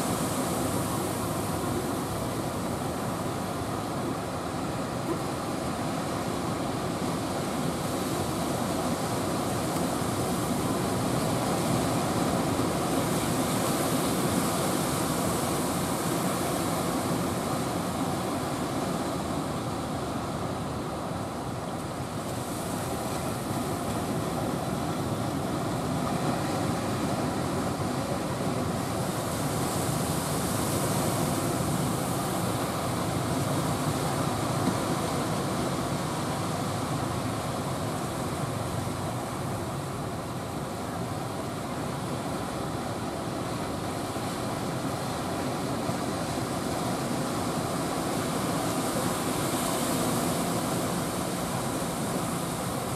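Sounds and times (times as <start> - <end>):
heavy surf breaking: 0.0 - 52.9.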